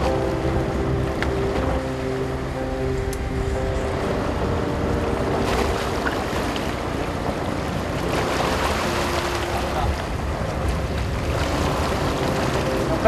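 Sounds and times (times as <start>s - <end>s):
wind and sea rushing: 0.0s - 13.0s.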